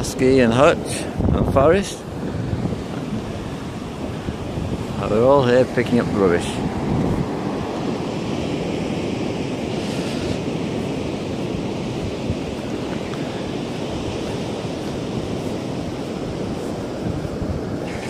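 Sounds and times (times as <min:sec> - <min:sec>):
sea surf on sandy beach: 0:00.0 - 0:18.0
wind buffeting microphone: 0:00.0 - 0:18.0.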